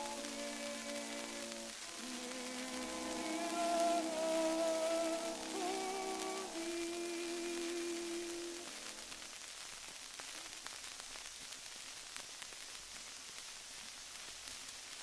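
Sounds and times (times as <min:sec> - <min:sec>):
record surface hiss and crackle: 0:00.0 - 0:15.0.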